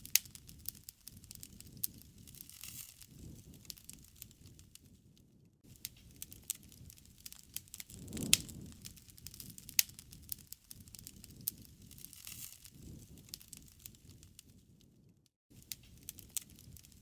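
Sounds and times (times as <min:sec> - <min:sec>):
low rush of flame: 0:00.0 - 0:17.0
wood fire crackling and popping: 0:00.0 - 0:17.0.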